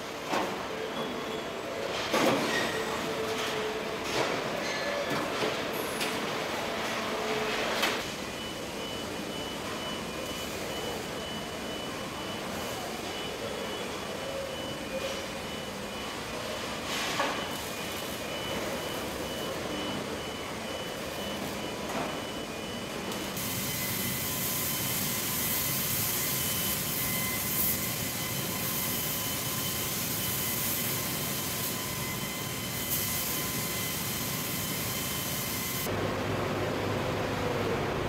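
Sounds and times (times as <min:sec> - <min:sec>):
factory machinery noise: 0:00.0 - 0:38.0
hissy machine with whine: 0:05.7 - 0:38.0.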